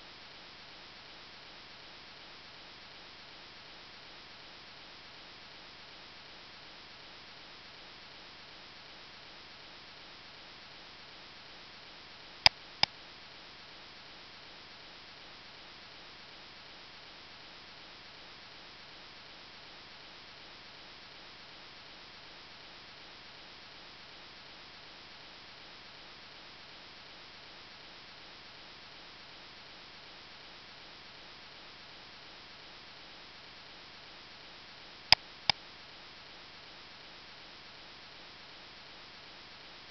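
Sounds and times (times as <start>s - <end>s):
faint room and microphone hiss: 0.0s - 39.9s.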